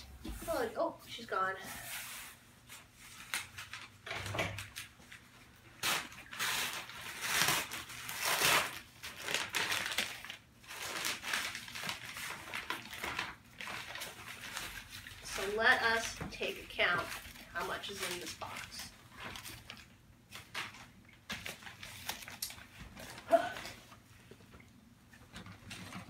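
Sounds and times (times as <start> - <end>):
newspaper rustling and crinkling: 1.8 - 24.0.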